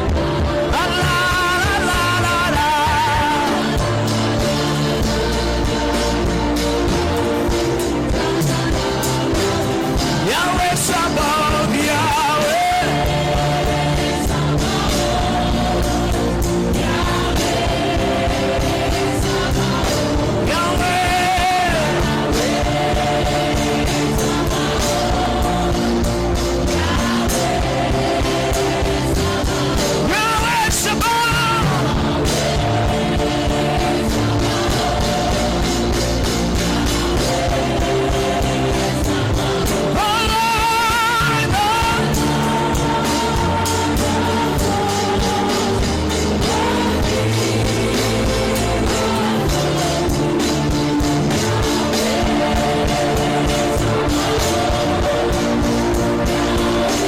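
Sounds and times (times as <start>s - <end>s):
guitar: 0.0s - 57.0s
person singing in long lines: 0.0s - 57.0s
worship band playing: 0.0s - 57.0s.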